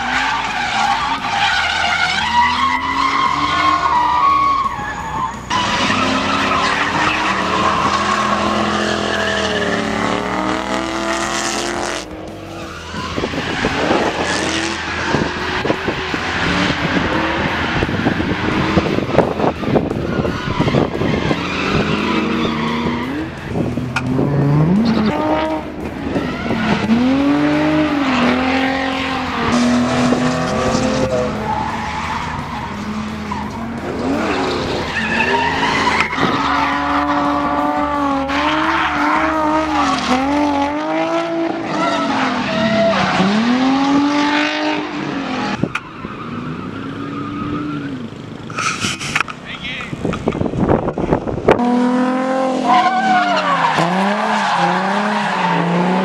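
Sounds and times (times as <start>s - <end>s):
tyres screeching: 0.0s - 11.7s, 12.4s - 44.1s, 52.6s - 56.0s
car engines revving hard: 0.0s - 56.0s.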